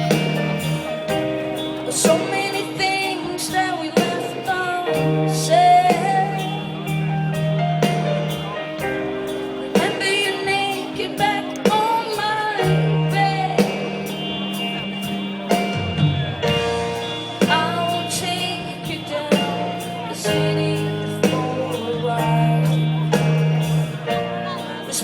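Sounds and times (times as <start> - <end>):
live rock band playing: 0.0 - 25.0
low bass notes: 0.0 - 25.0
person singing: 0.0 - 25.0
steady drum beat: 0.0 - 25.0.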